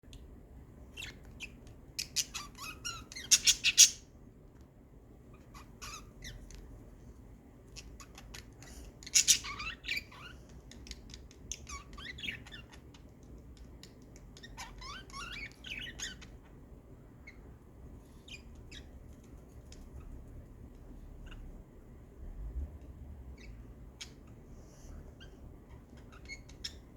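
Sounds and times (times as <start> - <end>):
small birds chirping and squawking: 0.8 - 4.1, 5.3 - 7.0, 7.6 - 22.0, 23.2 - 26.9.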